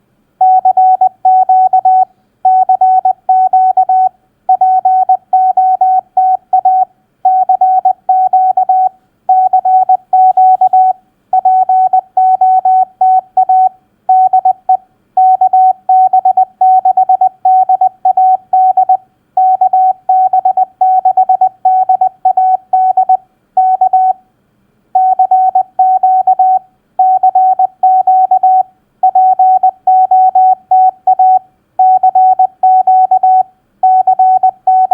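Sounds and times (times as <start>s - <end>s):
morse code tone: 0.4s - 24.2s, 25.0s - 34.9s.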